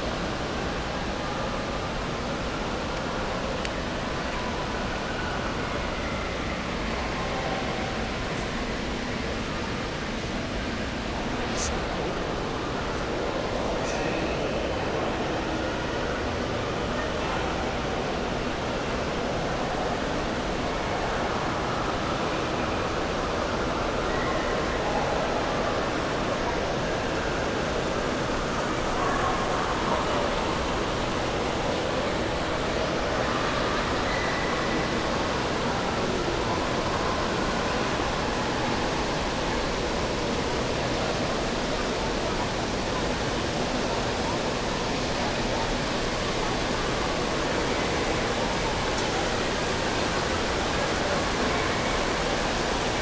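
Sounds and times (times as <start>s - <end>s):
rushing and splashing water: 0.0s - 53.0s.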